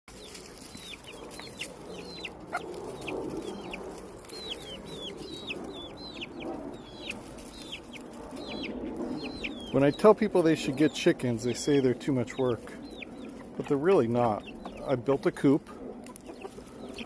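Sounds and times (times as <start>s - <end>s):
chickens peeping: 0.1s - 17.0s.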